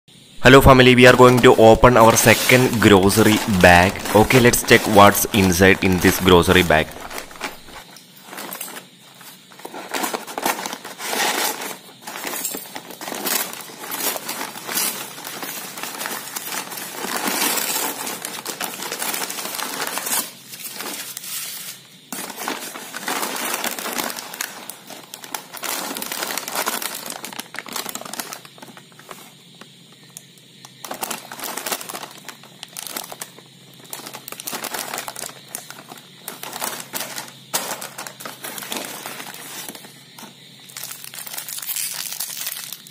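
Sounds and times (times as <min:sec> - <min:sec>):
plastic packet crinkling: 0:00.4 - 0:21.5, 0:22.2 - 0:29.2, 0:30.8 - 0:39.9, 0:40.7 - 0:42.9
paper bag crinkling: 0:00.4 - 0:29.3, 0:30.8 - 0:42.9.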